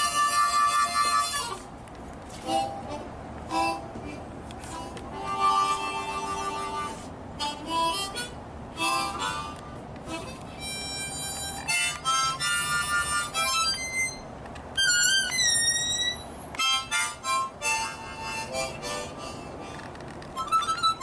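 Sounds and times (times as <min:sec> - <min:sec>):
harmonica solo: 0:00.0 - 0:21.0.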